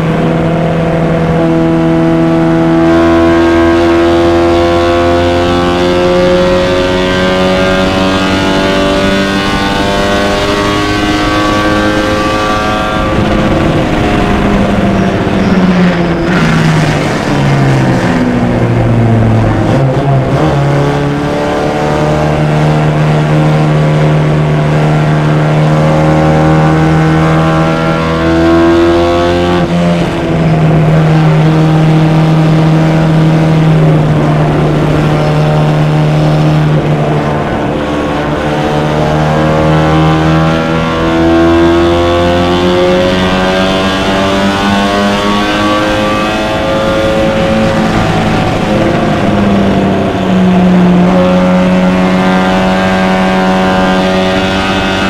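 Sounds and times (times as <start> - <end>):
race car engine revving: 0.0 - 55.0
wind noise: 0.0 - 55.0.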